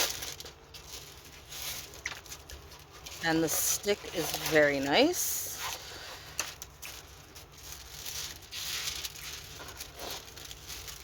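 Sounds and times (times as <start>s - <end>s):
canvas rustling and crinkling: 0.0s - 11.0s.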